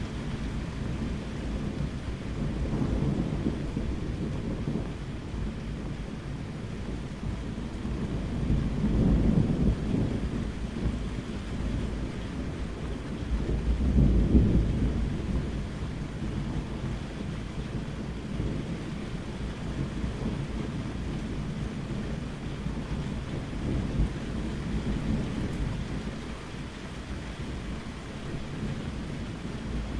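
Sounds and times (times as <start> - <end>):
rolling thunder: 0.0 - 29.9
steady rain: 0.0 - 29.9.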